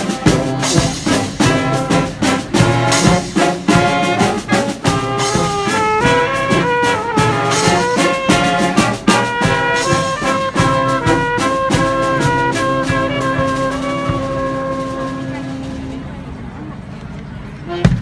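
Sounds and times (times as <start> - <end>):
steady drumbeat: 0.0 - 16.2
brass band playing: 0.0 - 16.5, 17.6 - 18.0.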